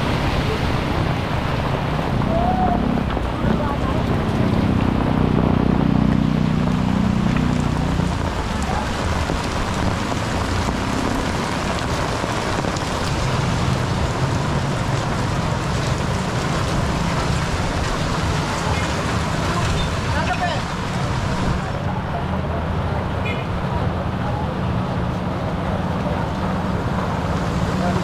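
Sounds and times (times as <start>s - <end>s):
heavy rain on flooded street: 0.0s - 28.0s.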